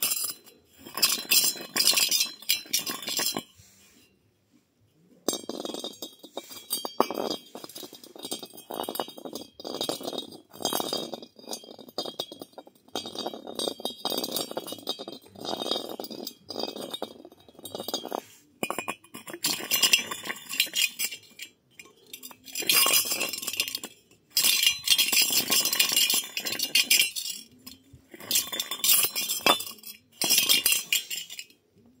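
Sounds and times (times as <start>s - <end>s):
metal object spinning on concrete: 0.0s - 4.0s, 5.2s - 31.6s.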